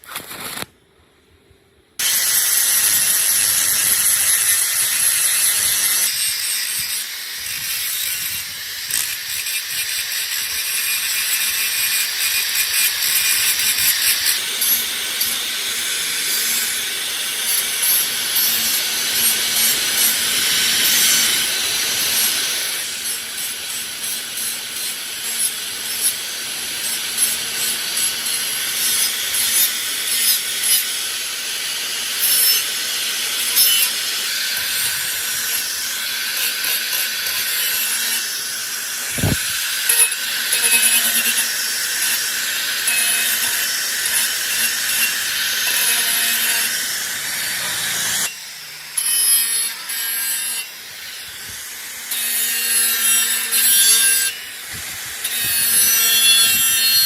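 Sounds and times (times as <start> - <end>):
power tool scraping rusty metal: 2.0 - 57.0.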